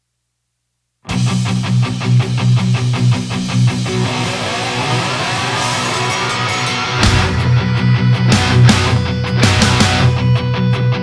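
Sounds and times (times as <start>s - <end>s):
heavy rock with distorted guitar: 1.1s - 11.0s.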